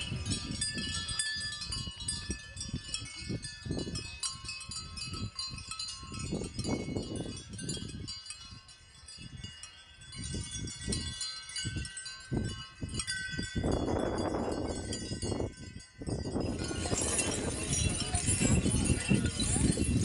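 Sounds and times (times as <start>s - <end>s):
high chime-like ringing tones: 0.0s - 20.0s
wind on microphone: 0.0s - 20.0s.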